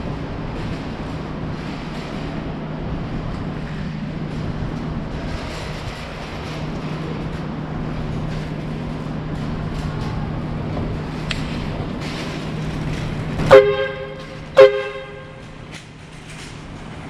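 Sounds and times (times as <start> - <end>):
mechanical rumble: 0.0 - 17.0.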